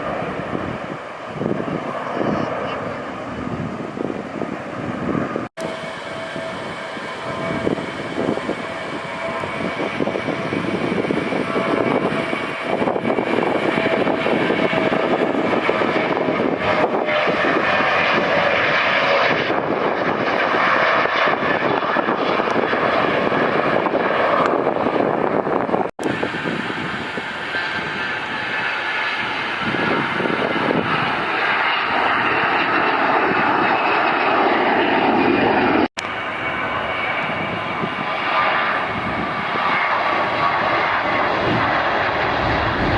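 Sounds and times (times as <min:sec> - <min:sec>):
jet engines roaring with whine: 0:00.0 - 0:42.9.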